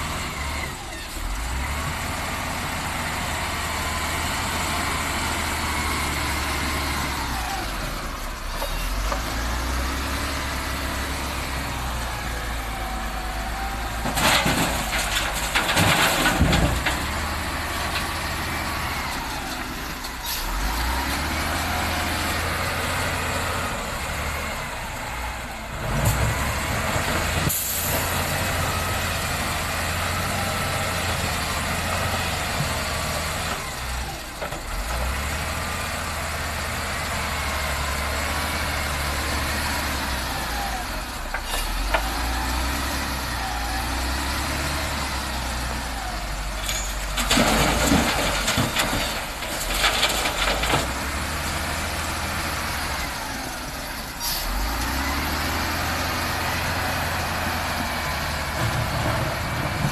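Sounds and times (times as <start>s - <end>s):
wheel loader diesel engine: 0.0s - 59.9s.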